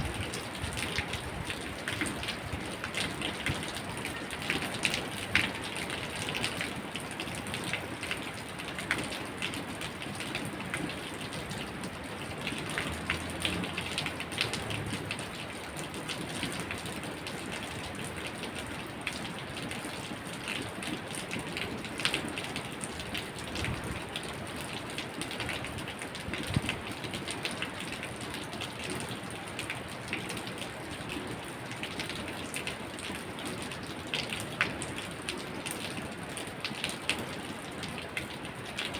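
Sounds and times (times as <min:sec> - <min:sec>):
raindrops ticking on surfaces: 0:00.0 - 0:38.9
steady rain hiss: 0:00.0 - 0:38.9.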